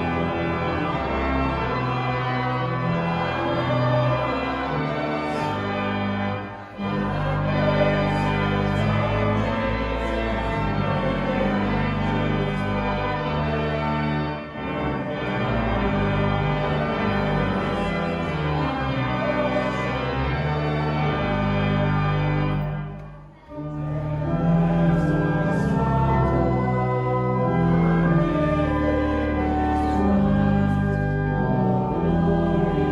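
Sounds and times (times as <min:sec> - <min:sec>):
church organ playing: 0:00.0 - 0:32.9.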